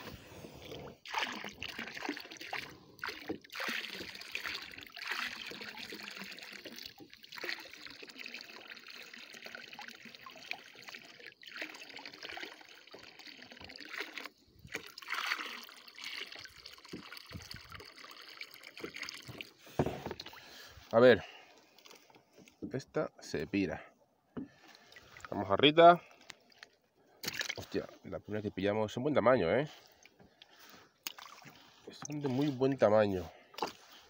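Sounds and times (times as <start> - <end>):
small waves lapping against hull: 0.0 - 22.9, 24.3 - 28.4, 29.2 - 34.0.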